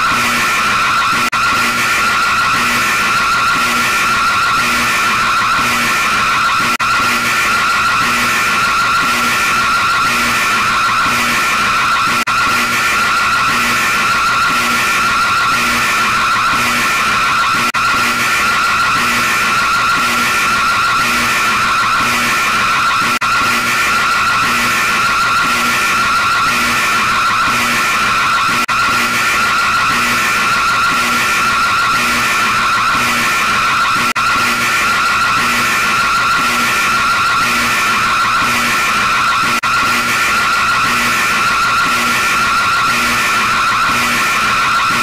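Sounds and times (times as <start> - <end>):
warbling emergency alarm tone: 0.0 - 45.0.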